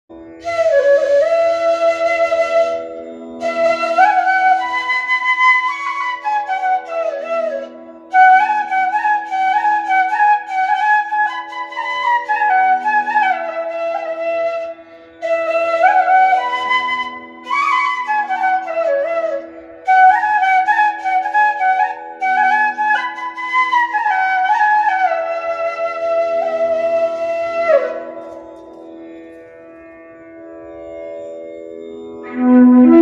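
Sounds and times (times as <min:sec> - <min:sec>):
bamboo flute melody: 0:00.2 - 0:29.1, 0:32.2 - 0:33.0.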